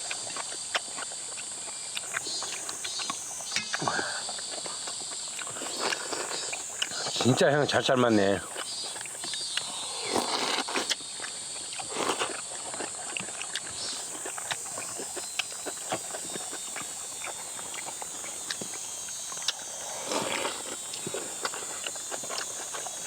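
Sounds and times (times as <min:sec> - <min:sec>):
chewing and slurping: 0:00.0 - 0:23.0
high insect drone: 0:00.0 - 0:23.0.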